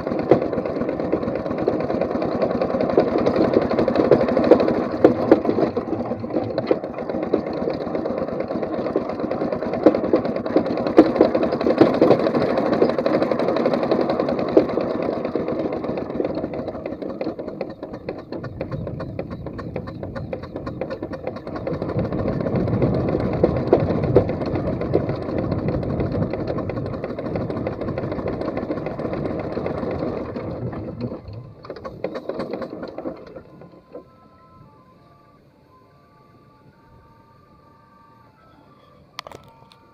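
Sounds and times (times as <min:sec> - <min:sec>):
steam engine mechanical beat: 0:00.0 - 0:34.2.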